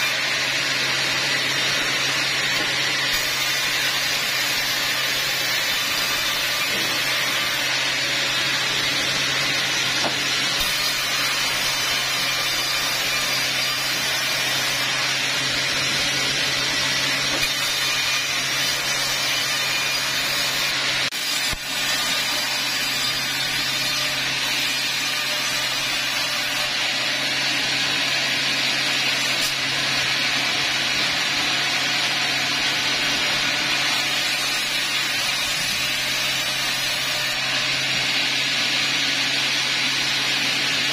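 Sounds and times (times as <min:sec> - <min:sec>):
bandsaw blade hissing through wood: 0:00.0 - 0:39.0.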